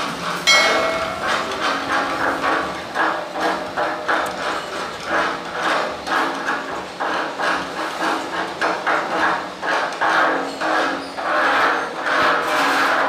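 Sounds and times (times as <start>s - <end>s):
scraping strokes on metal: 0.5s - 13.0s.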